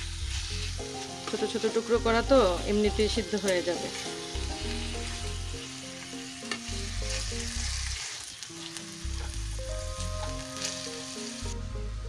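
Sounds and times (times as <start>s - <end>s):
chicken sizzling in hot oil: 0.0s - 12.0s
soft background music: 0.0s - 12.0s.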